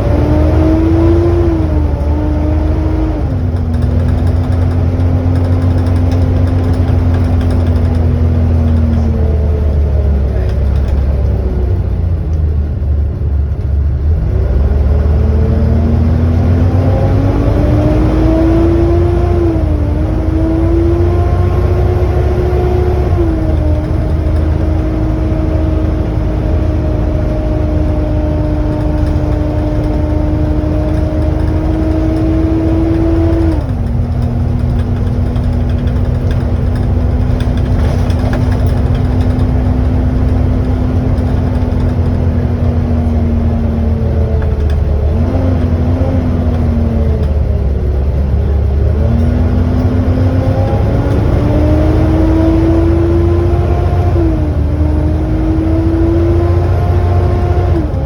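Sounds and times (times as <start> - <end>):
high-pitched bus whine: 0.0 - 58.0
low bus engine rumble: 0.0 - 58.0.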